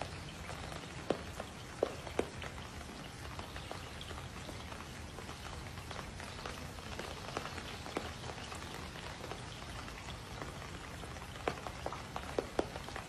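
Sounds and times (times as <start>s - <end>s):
light rain on pool water: 0.0s - 13.0s.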